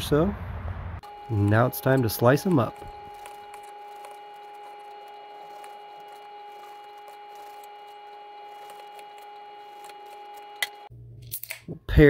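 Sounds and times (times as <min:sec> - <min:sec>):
steady hum: 0:00.8 - 0:11.2.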